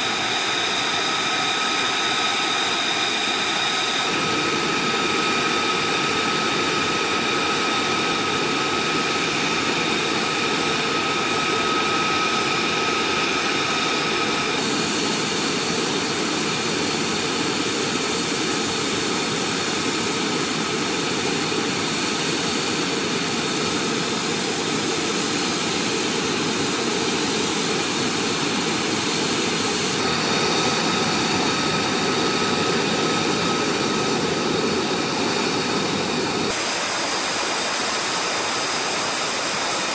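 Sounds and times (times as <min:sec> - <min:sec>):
jet engine idling: 0:00.0 - 0:39.9.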